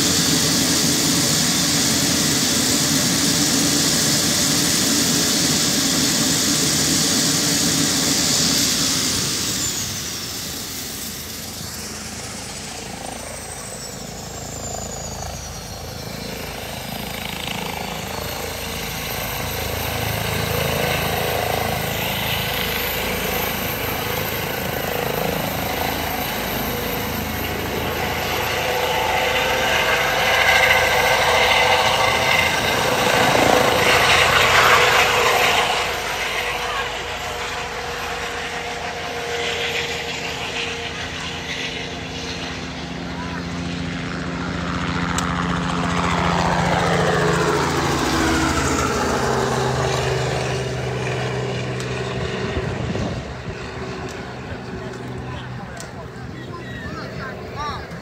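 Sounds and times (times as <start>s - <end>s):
helicopter rotor and turbine noise: 0.0s - 58.0s.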